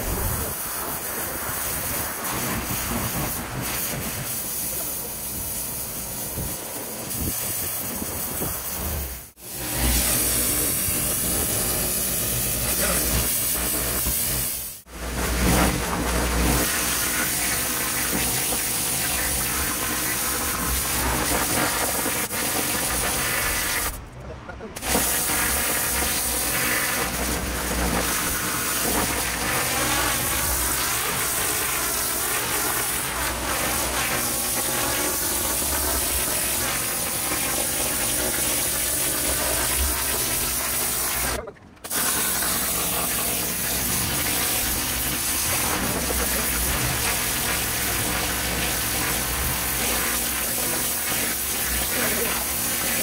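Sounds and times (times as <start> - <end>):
pressure washer spraying water: 0.0 - 24.0, 24.8 - 53.0.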